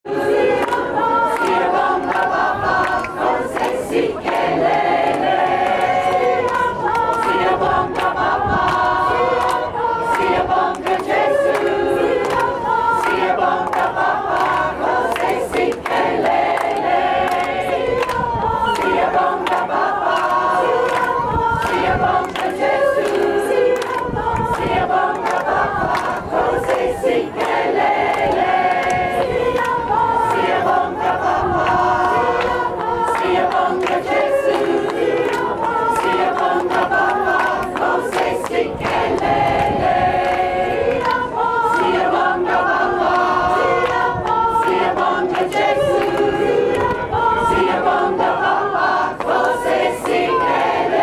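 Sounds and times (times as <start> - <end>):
choir singing in harmony: 0.0 - 51.0.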